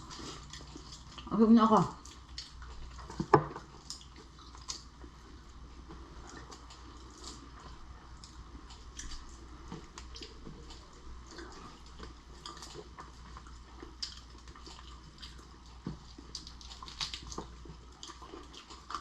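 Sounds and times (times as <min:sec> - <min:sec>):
wet chewing and mouth smacking: 0:00.0 - 0:01.3, 0:02.0 - 0:19.0
low steady hum: 0:00.0 - 0:19.0.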